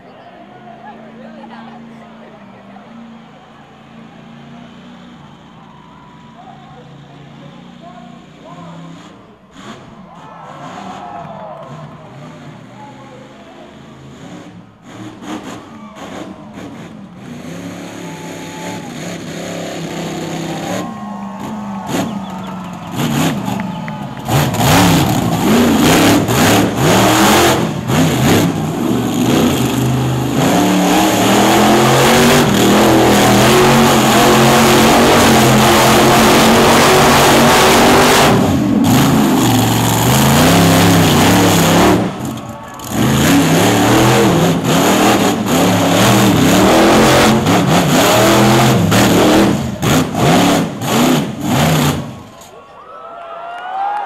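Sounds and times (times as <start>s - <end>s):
monster truck engine revving: 0.0s - 52.6s.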